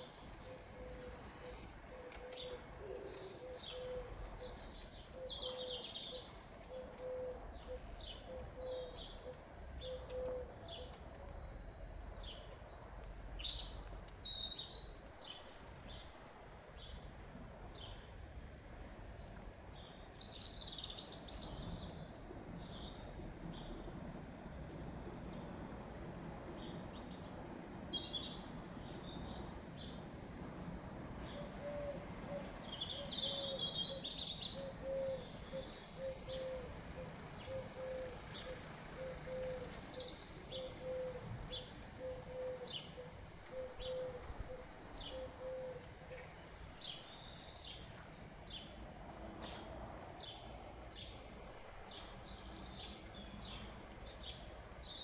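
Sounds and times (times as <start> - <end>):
small birds chirping: 0.0 - 23.9, 32.4 - 55.0
outdoor background noise: 0.0 - 55.0.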